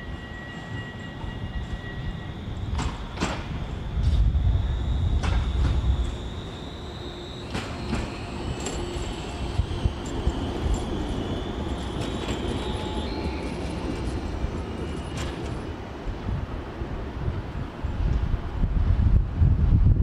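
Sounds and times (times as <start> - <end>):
high tram whine: 0.0 - 16.5
tram wheels rumbling on rail: 0.0 - 20.0.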